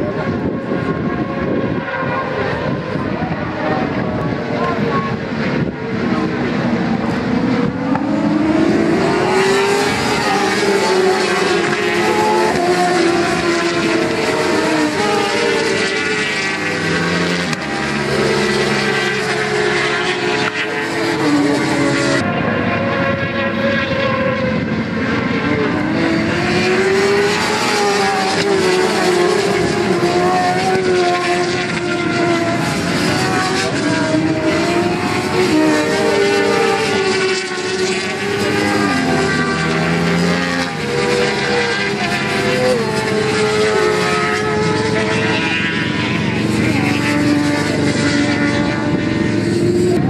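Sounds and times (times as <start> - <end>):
racing motorcycle engines revving: 0.0 - 50.0.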